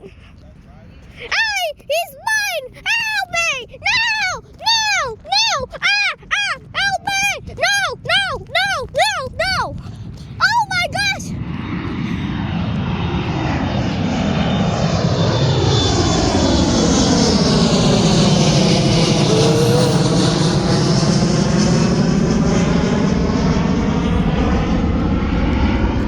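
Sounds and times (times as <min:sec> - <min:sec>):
jet airliner passing overhead: 0:02.4 - 0:26.0.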